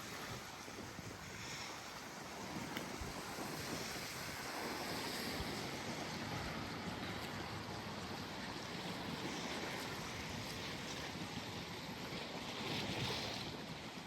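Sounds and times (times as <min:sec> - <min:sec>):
waves lapping on shore: 0:00.0 - 0:14.0
wind on microphone: 0:00.0 - 0:14.0.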